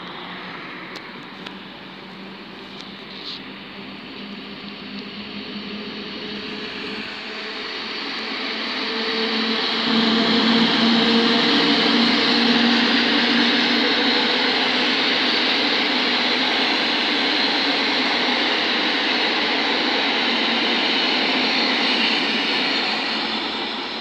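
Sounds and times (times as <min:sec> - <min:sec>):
electric locomotive hum: 0:00.0 - 0:24.0
train wheels rolling on rails: 0:00.2 - 0:24.0.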